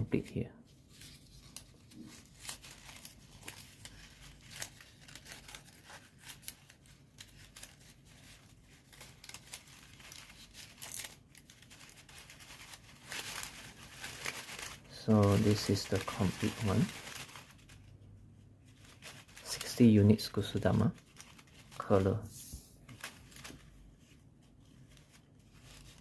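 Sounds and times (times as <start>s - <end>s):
paper rustling and crinkling: 0.1s - 26.0s.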